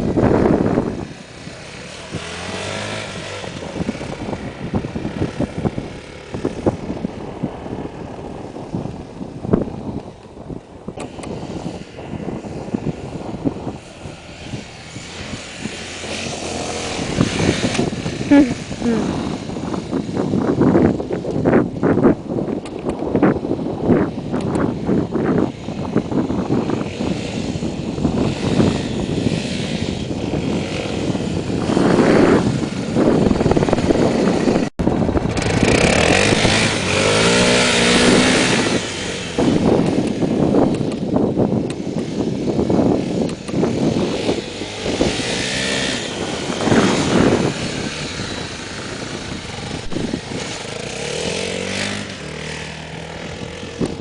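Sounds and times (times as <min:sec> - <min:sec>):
motorcycle engine revving: 0:00.0 - 0:54.0
steady rush of noise: 0:00.0 - 0:54.0.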